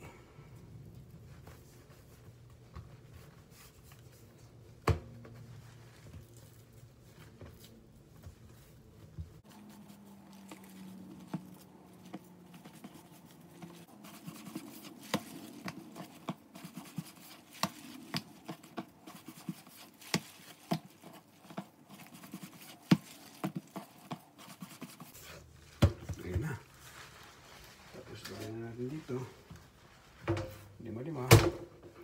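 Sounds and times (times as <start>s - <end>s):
hands rubbing dough: 0.8s - 30.2s.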